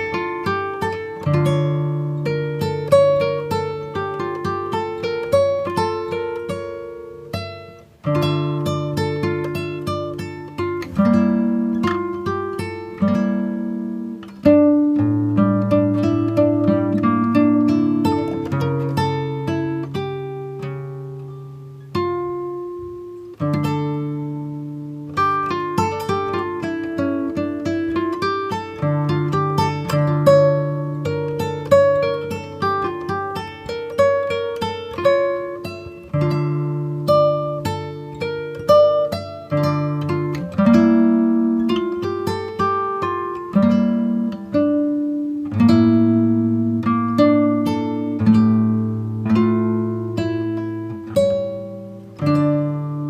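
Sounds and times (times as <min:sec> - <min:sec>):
plucked acoustic guitar music: 0:00.0 - 0:53.0.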